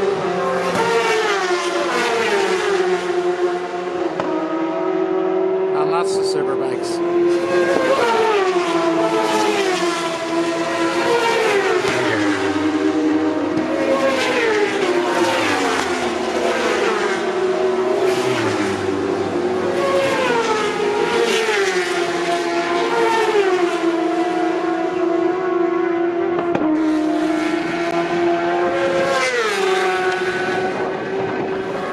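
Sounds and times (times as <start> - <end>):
motorcycles passing at high speed: 0.0 - 31.9.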